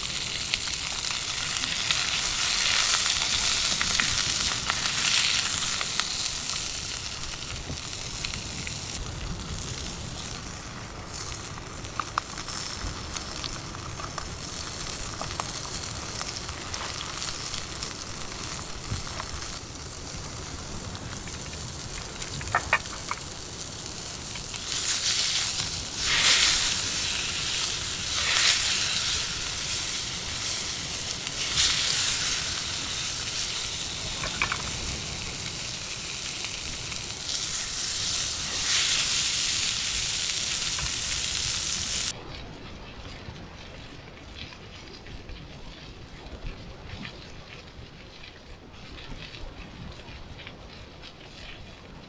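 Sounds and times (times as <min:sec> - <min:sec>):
food sizzling in pan: 0:00.0 - 0:42.2.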